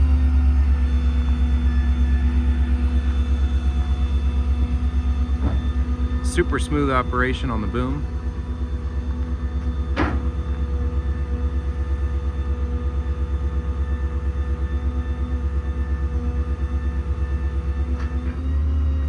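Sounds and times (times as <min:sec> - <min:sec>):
truck engine driving crane hydraulics: 0:00.0 - 0:19.0.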